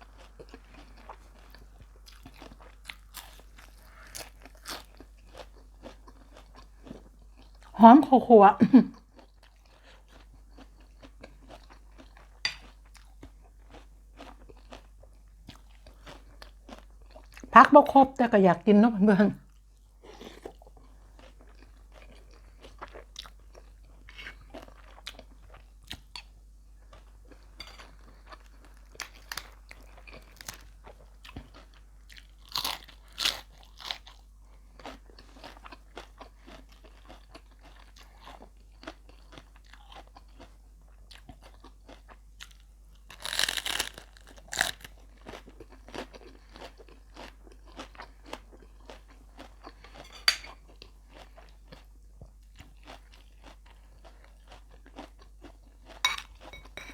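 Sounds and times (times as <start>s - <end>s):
chewing and crunching food: 0.0s - 18.1s, 19.3s - 56.9s.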